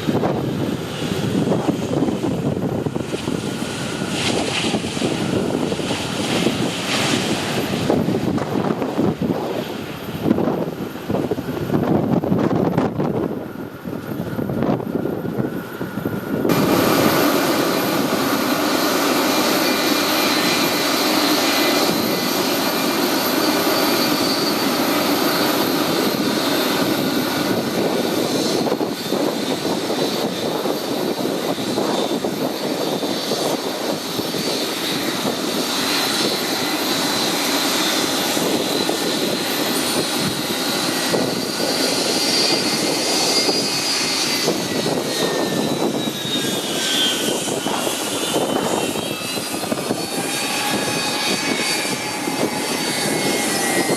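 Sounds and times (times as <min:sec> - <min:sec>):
high engine whine: 0:00.0 - 0:53.9
jet engines running loudly: 0:00.0 - 0:53.9.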